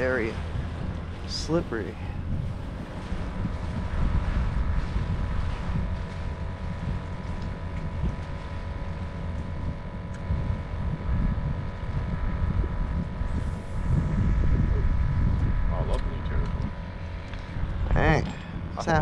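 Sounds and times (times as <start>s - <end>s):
boat motor whining: 0.0s - 19.0s
wind buffeting microphone: 0.0s - 19.0s.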